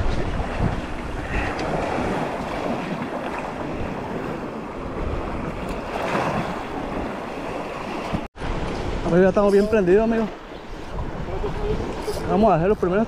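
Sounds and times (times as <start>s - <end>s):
shallow surf washing: 0.0s - 13.0s
wind buffeting microphone: 0.0s - 13.0s.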